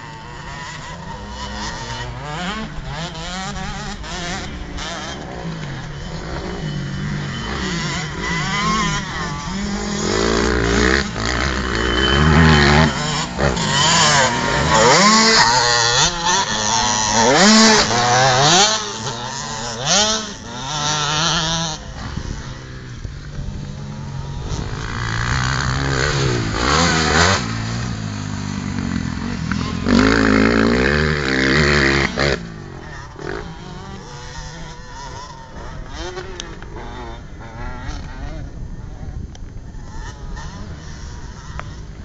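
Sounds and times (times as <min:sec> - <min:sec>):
motocross bike revving: 0:00.0 - 0:42.0.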